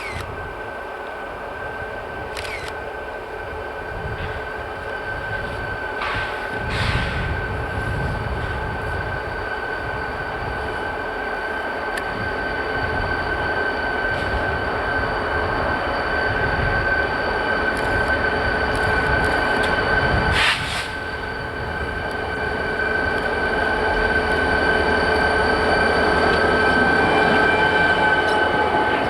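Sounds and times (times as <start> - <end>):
freight train rumbling over rails: 0.0 - 29.0
high-pitched whine: 1.5 - 29.0.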